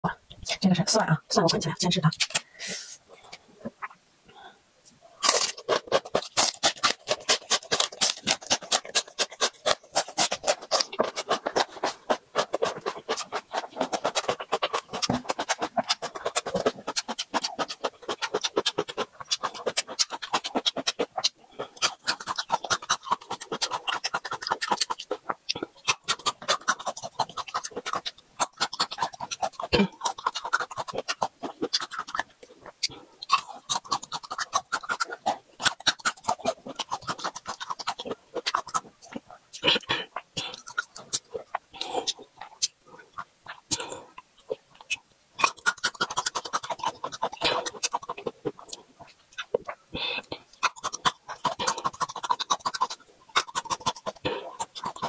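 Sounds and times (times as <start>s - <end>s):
wet mouth sounds: 0.0s - 55.0s
crunching and chewing garlic: 1.4s - 2.5s, 5.0s - 55.0s.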